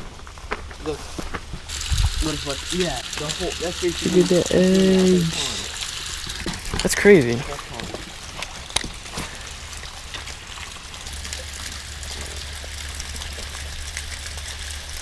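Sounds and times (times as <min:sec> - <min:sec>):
water pouring over a dam: 0:01.7 - 0:15.0.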